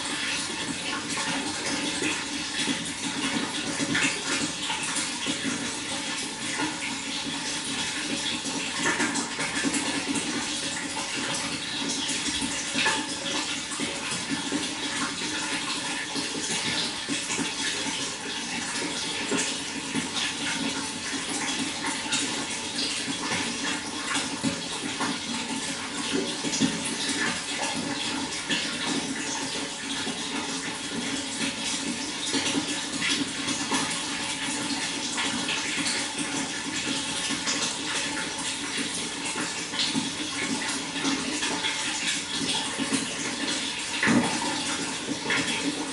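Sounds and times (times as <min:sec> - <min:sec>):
running water with splashes: 0:00.0 - 0:45.9.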